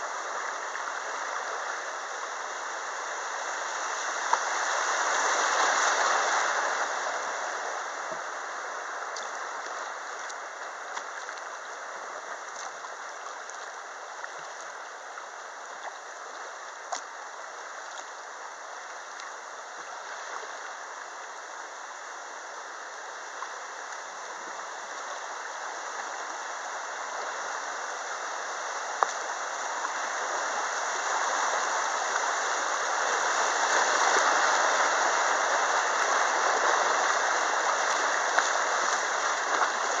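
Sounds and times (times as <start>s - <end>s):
river water rushing through rapids: 0.0s - 40.0s.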